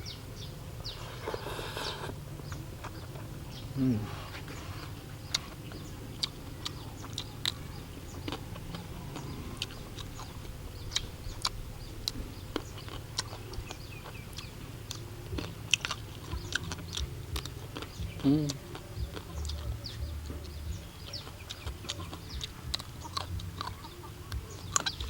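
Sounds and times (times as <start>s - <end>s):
chewing clicks and smacks: 4.8s - 25.0s.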